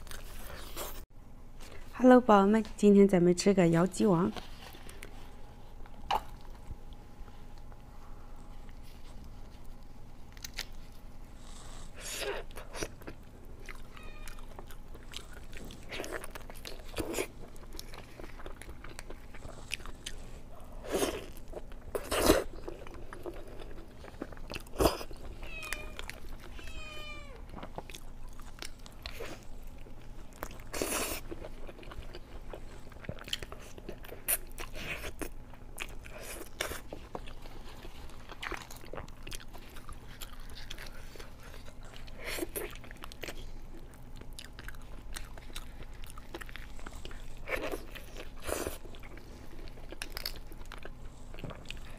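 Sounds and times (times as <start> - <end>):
crunchy chewing: 4.3 - 51.9.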